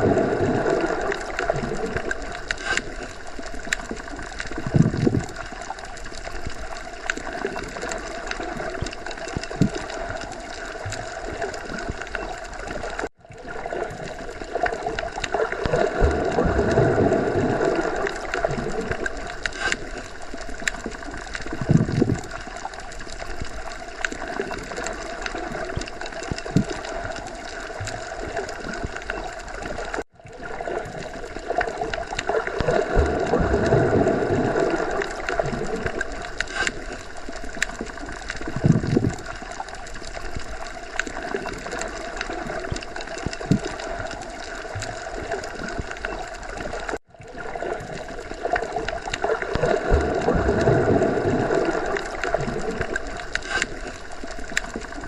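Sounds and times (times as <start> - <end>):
faint underwater clicks: 0.0 - 55.0
muffled underwater water wash: 0.0 - 55.0.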